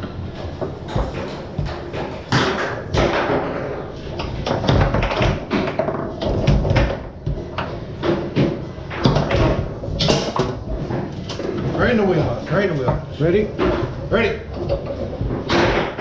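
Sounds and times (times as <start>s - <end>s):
foosball rods clacking: 0.0s - 16.0s
foosball ball knocks: 0.2s - 11.7s, 12.9s - 16.0s.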